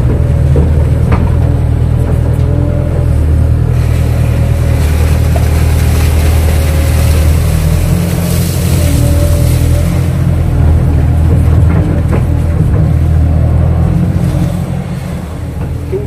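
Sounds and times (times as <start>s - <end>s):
diesel excavator engine droning: 0.0s - 16.0s.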